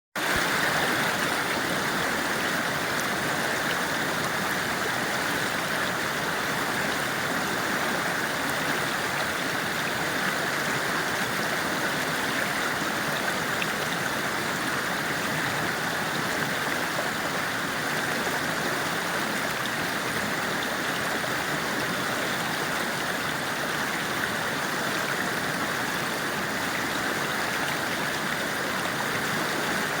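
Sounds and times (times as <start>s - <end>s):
stream flowing over rocks: 0.2s - 30.0s.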